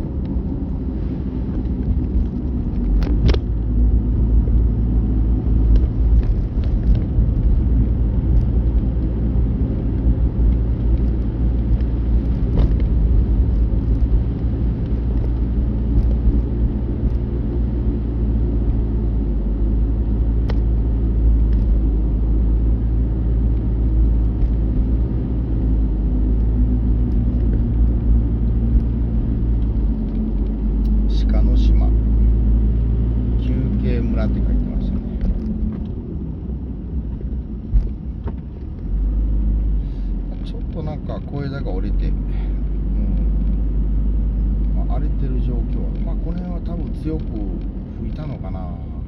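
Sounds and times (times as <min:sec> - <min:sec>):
engine and road noise: 0:00.0 - 0:49.0.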